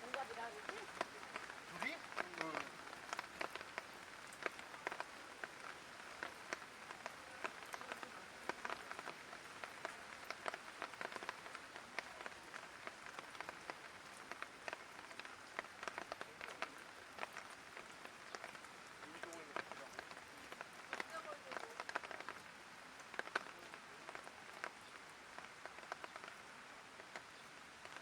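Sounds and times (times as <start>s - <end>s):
light rain hiss: 0.0s - 28.0s
raindrops tapping surfaces: 0.0s - 28.0s.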